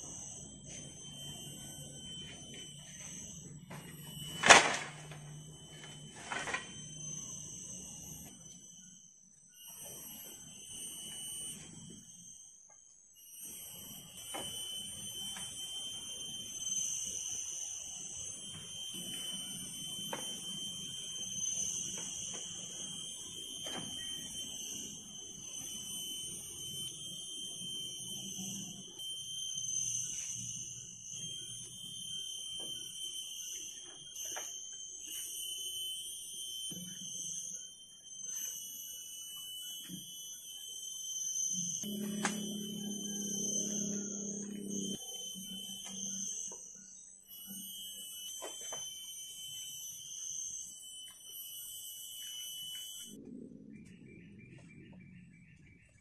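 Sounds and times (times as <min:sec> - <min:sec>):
insects shrilling: 0:00.0 - 0:12.5, 0:13.2 - 0:53.2.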